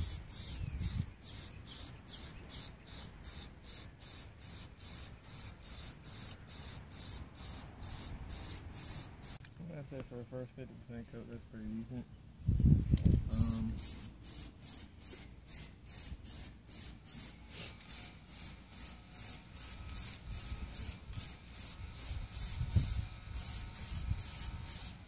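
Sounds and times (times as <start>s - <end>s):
aerosol spray can hissing: 0.0s - 9.4s, 13.3s - 25.0s.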